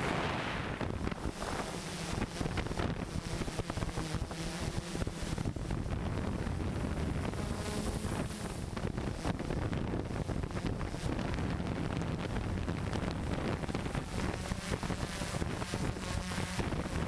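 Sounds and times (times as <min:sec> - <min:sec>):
drone motors and propellers: 0:00.0 - 0:17.0
wind buffeting microphone: 0:00.0 - 0:17.0.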